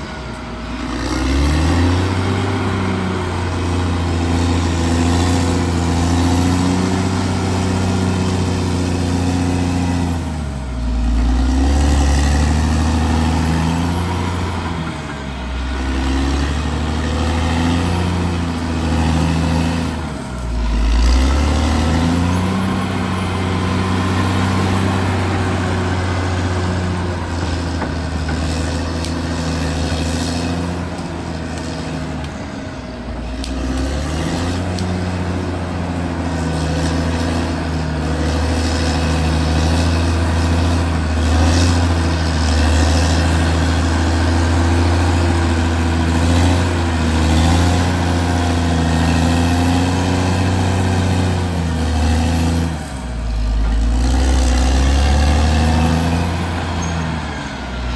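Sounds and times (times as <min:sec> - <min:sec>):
bulldozer diesel engine under load: 0:00.0 - 0:57.9.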